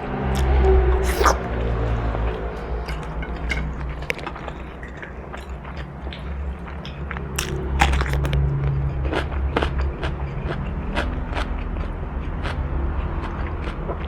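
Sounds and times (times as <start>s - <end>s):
crunchy food being chewed: 0.3s - 14.0s.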